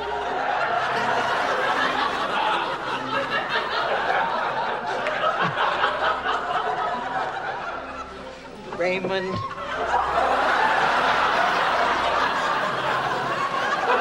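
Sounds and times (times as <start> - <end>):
studio audience laughing: 0.0 - 8.4, 9.6 - 14.0.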